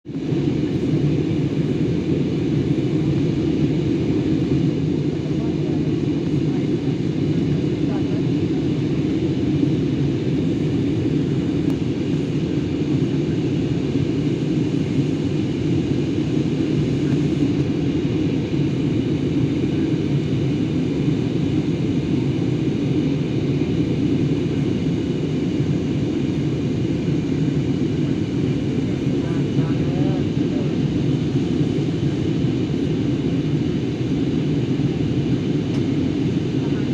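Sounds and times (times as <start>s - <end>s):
airplane cabin engine rumble: 0.1s - 36.9s.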